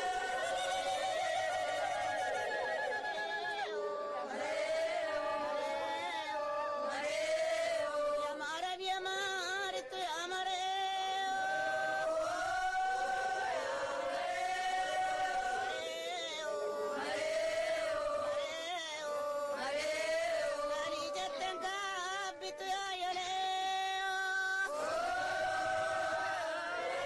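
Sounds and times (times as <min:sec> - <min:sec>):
voices singing a chant: 0:00.0 - 0:27.0.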